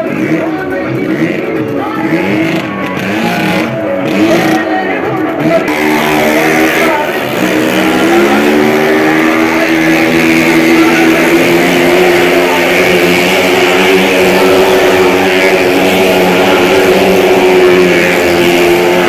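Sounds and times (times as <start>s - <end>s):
small motorcycle engine revving: 0.0s - 19.0s.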